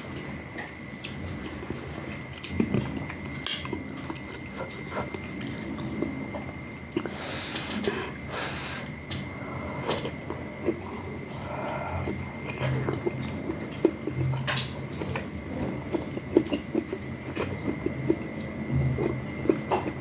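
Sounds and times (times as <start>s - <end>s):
slurping and chewing: 1.0s - 20.0s.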